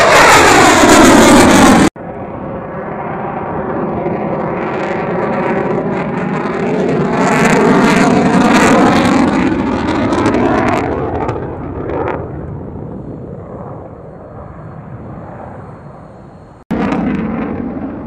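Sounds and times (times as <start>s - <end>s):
jet engines flyby: 0.0s - 18.0s.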